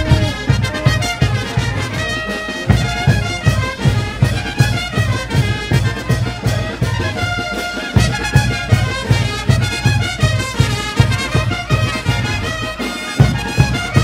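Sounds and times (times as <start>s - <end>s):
brass band playing dance music: 0.0s - 14.0s
low drum beat: 0.0s - 14.0s.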